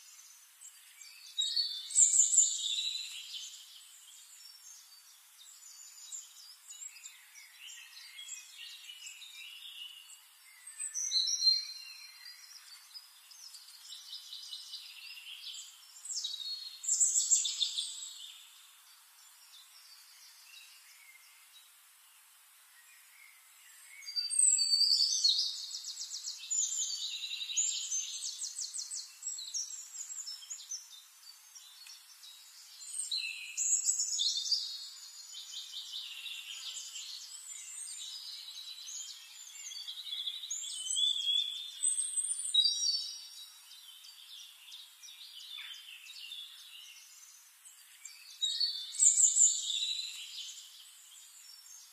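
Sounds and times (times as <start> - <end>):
birds chirping and singing: 0.0 - 21.8, 22.7 - 51.9.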